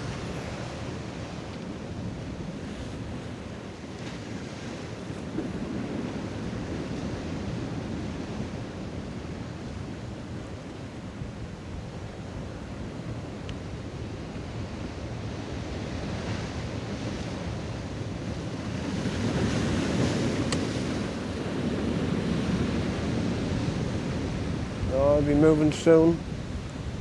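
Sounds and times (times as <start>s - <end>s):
sea waves washing against rocks: 0.0s - 27.0s
wind buffeting microphone: 0.0s - 27.0s.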